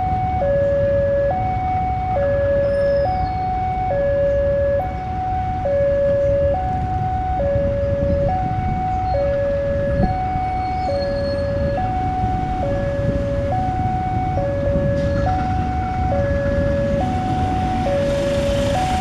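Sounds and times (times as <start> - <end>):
two-tone crossing alarm: 0.0 - 19.0.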